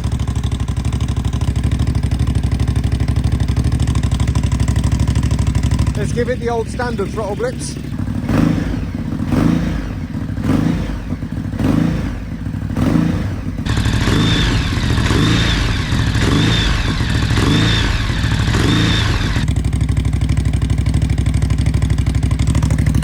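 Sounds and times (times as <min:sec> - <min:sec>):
motorcycle engine idling: 0:00.0 - 0:23.0
motorcycle engine revving: 0:00.0 - 0:23.0.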